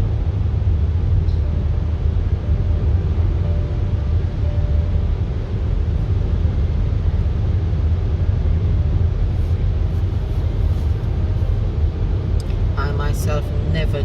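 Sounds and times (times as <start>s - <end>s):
car driving through tunnel: 0.0s - 14.0s.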